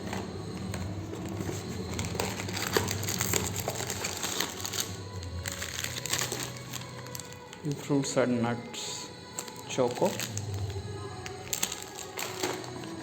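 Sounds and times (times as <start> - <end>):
background music: 0.0 - 13.0
plastic snack packets crinkling: 0.0 - 13.0.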